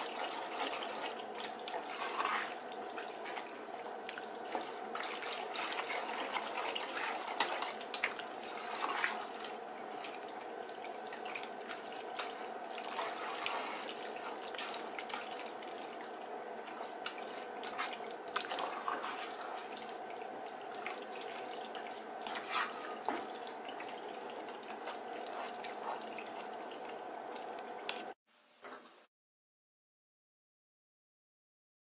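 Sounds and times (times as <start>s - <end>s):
spoon stirring pasta in a pot: 0.0s - 16.0s, 16.6s - 27.0s
faint hum: 0.0s - 28.2s.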